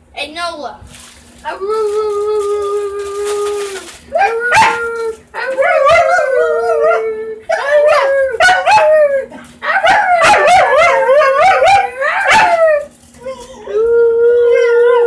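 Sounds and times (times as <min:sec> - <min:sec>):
dog howling: 0:01.6 - 0:13.0, 0:13.7 - 0:15.0.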